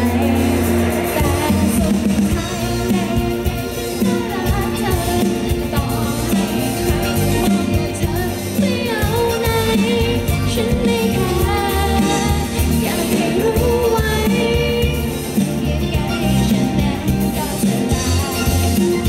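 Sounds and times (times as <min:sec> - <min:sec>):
live band playing pop: 0:00.0 - 0:19.0
woman singing: 0:00.0 - 0:19.0.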